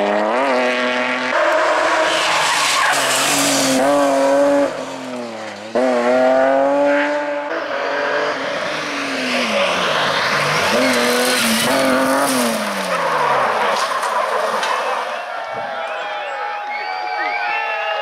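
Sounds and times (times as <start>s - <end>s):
rally car engine revving: 0.0s - 15.3s
rally car passing by: 0.0s - 15.4s.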